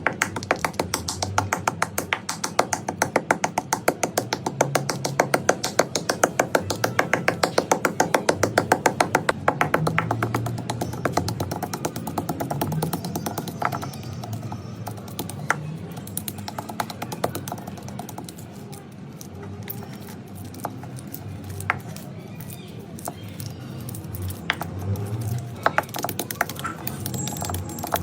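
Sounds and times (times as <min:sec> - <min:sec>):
chalk crunching and crumbling: 0:00.0 - 0:28.0.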